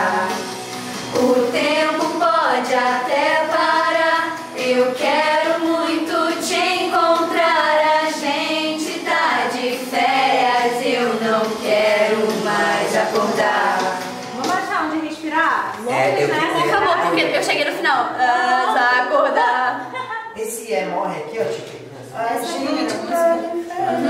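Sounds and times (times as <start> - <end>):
group singing: 0.0 - 14.5, 15.7 - 20.4, 22.0 - 24.0.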